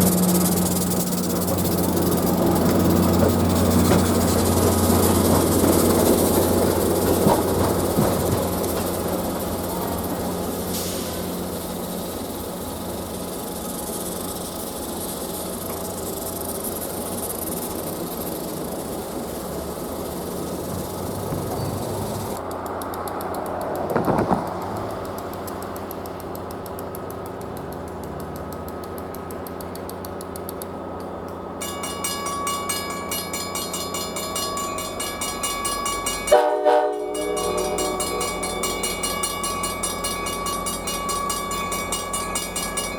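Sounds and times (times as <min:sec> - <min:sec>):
diesel train engine drone: 0:00.0 - 0:42.9
train clanks: 0:00.0 - 0:42.9.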